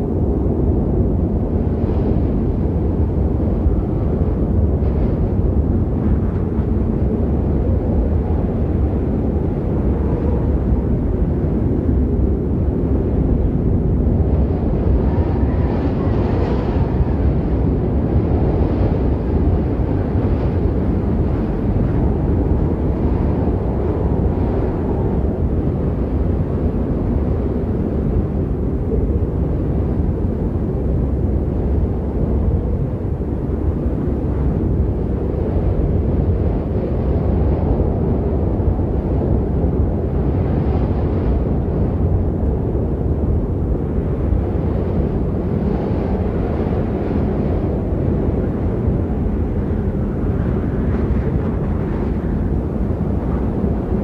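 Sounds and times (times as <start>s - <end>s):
deep rush of wind: 0.0s - 54.0s
snowstorm low rumbling roar: 0.0s - 54.0s.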